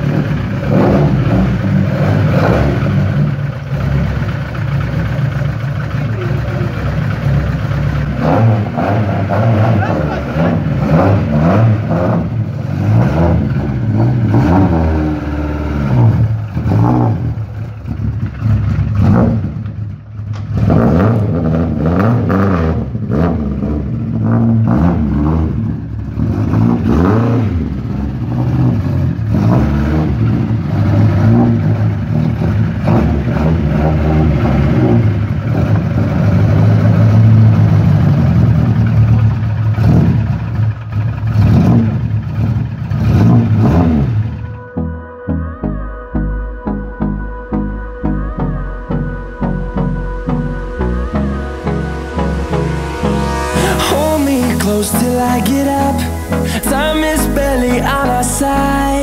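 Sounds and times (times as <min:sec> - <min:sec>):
rally car engine revving: 0:00.0 - 0:44.6, 0:48.9 - 0:59.0.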